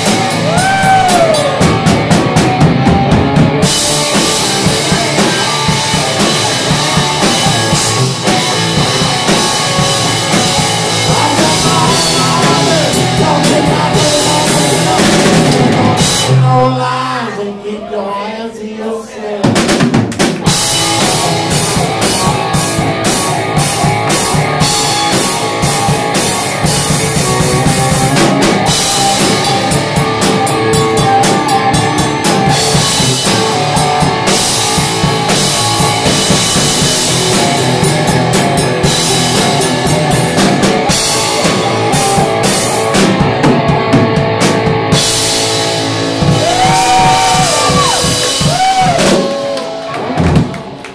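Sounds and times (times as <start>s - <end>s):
drum kit with cymbals: 0.0s - 16.5s, 19.4s - 50.7s
amplified guitar: 0.0s - 17.0s, 20.4s - 50.9s.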